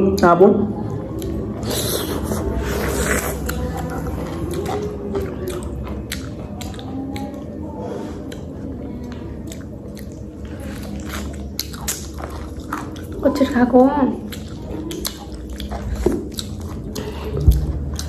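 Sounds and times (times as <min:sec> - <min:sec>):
person eating mango: 0:00.8 - 0:13.5, 0:14.2 - 0:18.0.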